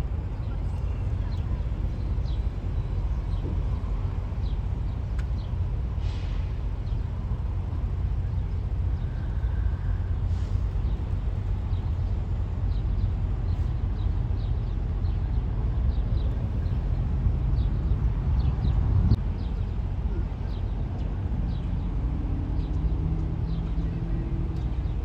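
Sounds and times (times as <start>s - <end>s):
road and engine rumble in cabin: 0.0s - 25.0s.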